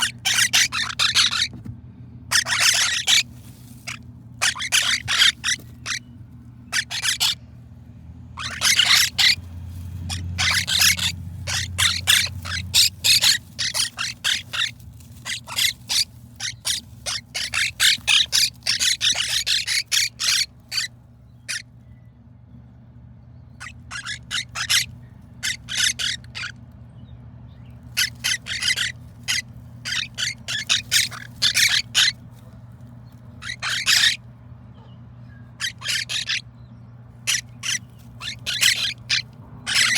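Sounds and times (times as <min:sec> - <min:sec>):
parrot chicks squawking: 0:00.0 - 0:07.4, 0:08.3 - 0:21.7, 0:23.6 - 0:26.6, 0:27.8 - 0:39.9.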